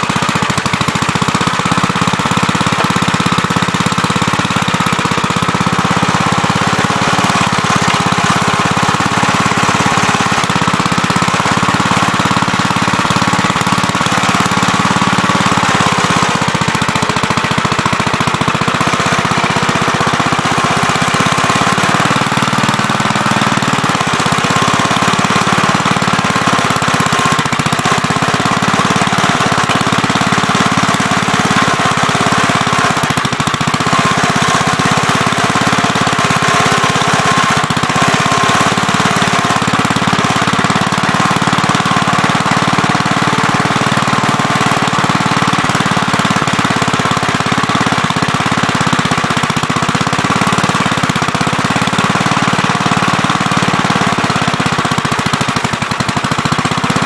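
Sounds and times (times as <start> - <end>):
backhoe engine running loudly: 0.0 - 57.0.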